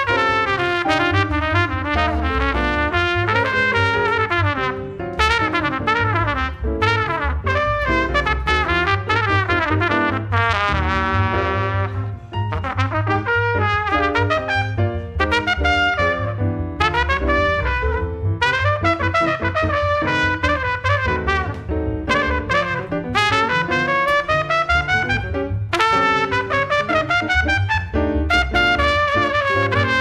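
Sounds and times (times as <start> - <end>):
jazz trumpet soloing: 0.0 - 30.0
piano comping: 0.0 - 30.0
plucked upright bass: 1.2 - 25.8.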